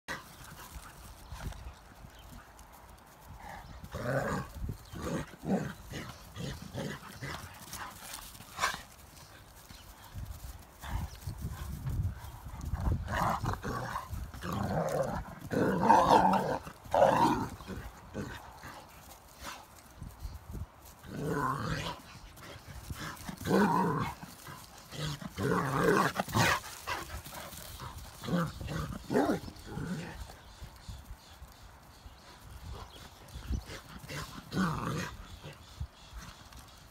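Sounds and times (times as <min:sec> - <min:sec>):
dogs play barking and growling: 0:00.1 - 0:36.9.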